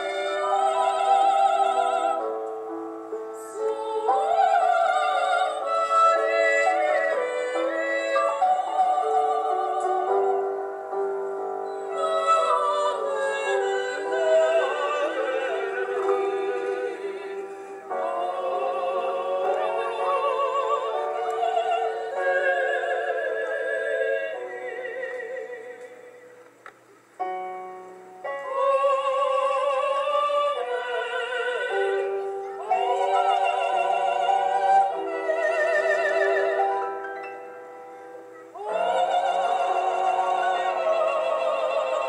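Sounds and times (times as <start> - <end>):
group singing folk song: 0.0 - 2.7, 3.5 - 10.7, 11.6 - 26.1, 28.4 - 37.0, 38.6 - 42.0.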